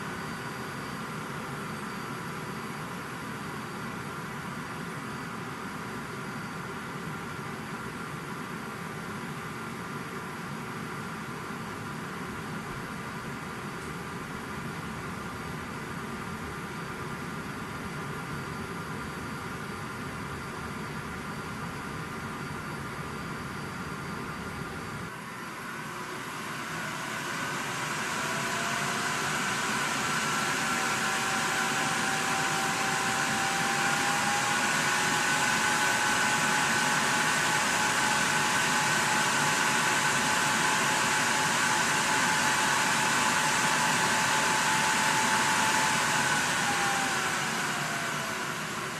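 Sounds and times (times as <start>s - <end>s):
cooling fans whirring: 0.0s - 48.9s.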